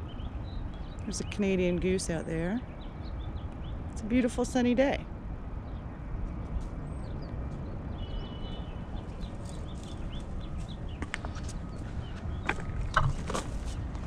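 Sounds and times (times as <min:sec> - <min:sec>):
birds chirping: 0:00.0 - 0:14.0
low outdoor rumble: 0:00.0 - 0:14.0.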